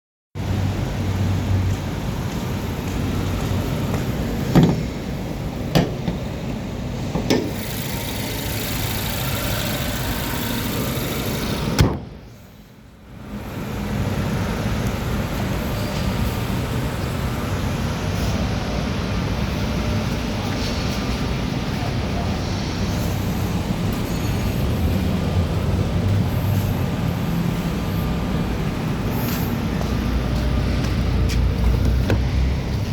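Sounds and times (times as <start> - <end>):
car engine humming: 0.7 - 12.7, 13.6 - 32.9.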